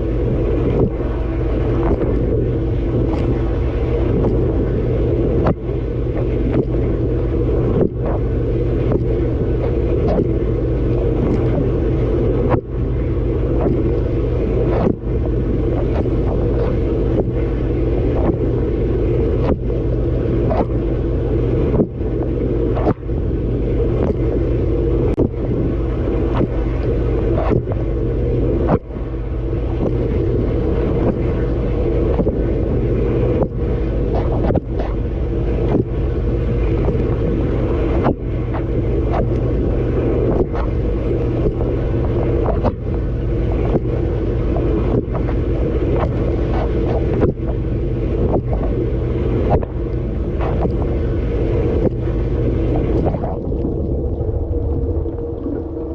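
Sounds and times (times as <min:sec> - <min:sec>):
dishwasher pump running: 0:00.0 - 0:55.9.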